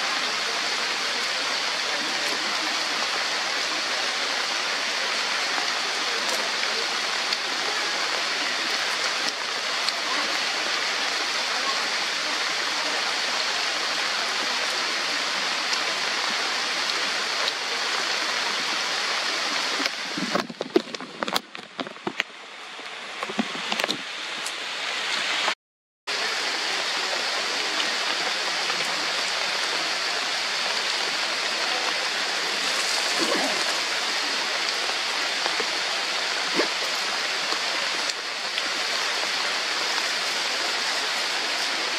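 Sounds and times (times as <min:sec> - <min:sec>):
heavy rain on foliage: 0:00.0 - 0:41.9.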